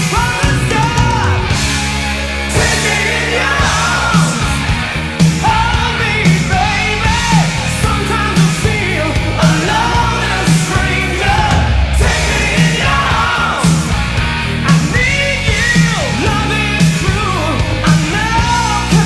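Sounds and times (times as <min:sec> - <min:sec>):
man singing: 0:00.0 - 0:01.5, 0:02.6 - 0:04.6, 0:05.4 - 0:14.0, 0:14.6 - 0:19.0
hard rock song: 0:00.0 - 0:19.0.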